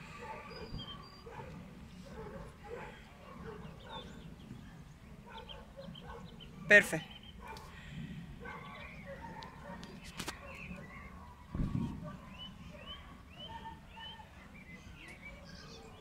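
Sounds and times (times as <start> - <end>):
outdoor background noise: 0.0 - 16.0
bird chirping: 0.1 - 16.0.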